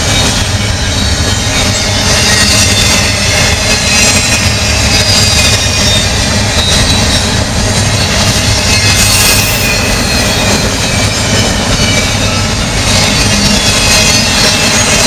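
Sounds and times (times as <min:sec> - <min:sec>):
high-pitched wheel squeal: 0:00.0 - 0:15.0
train wheels rumbling and rattling: 0:00.0 - 0:15.0.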